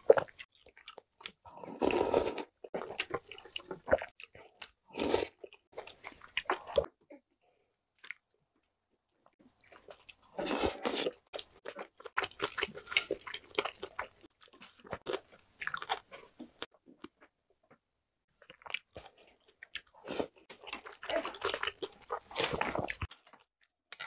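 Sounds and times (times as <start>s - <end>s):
wet chewing and mouth sounds: 0.0s - 6.9s, 9.4s - 24.0s.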